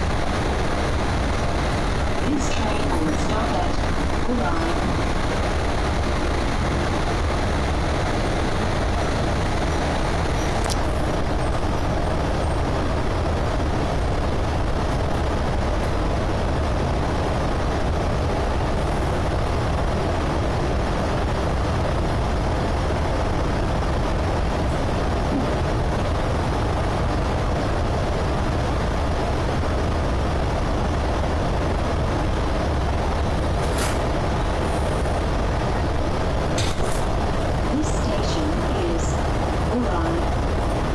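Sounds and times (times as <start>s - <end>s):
train carriage rumble: 0.0s - 40.9s.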